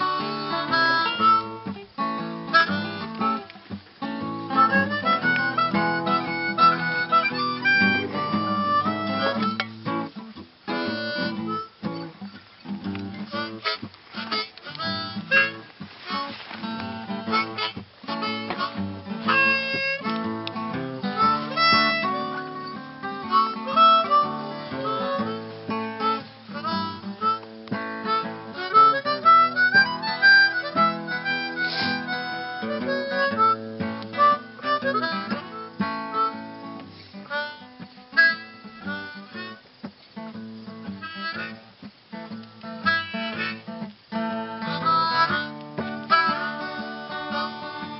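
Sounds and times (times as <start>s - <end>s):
harmonica: 0.0s - 10.1s, 10.7s - 47.9s
acoustic guitar: 0.0s - 47.9s.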